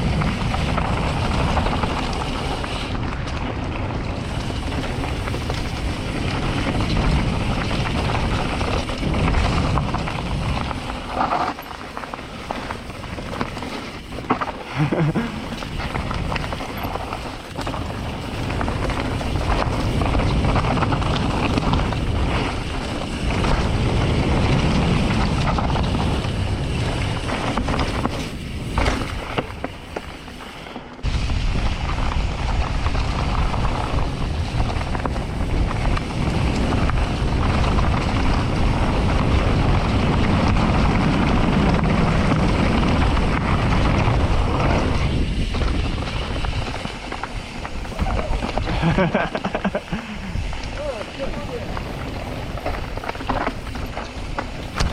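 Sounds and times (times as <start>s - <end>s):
wind buffeting microphone: 0.0s - 29.9s, 31.0s - 54.9s.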